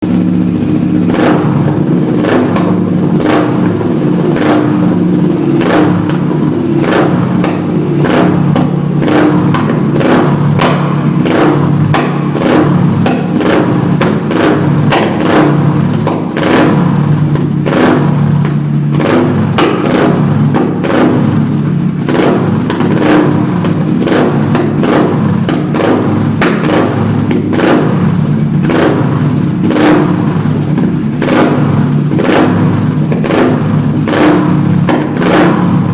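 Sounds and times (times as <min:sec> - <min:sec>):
motorcycle engine running: 0:00.0 - 0:35.9
sharp engine pops: 0:05.6 - 0:21.4, 0:22.0 - 0:35.9.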